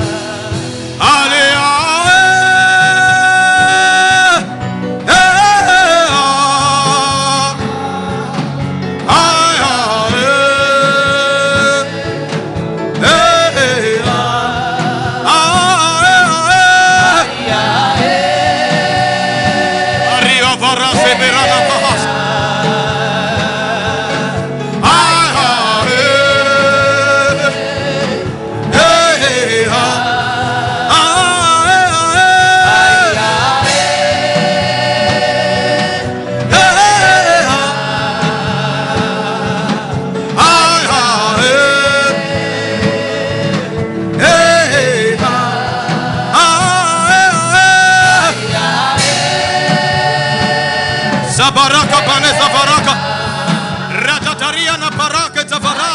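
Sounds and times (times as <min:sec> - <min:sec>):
gospel worship singing: 0:00.0 - 0:55.9
instrumental backing: 0:00.0 - 0:55.9.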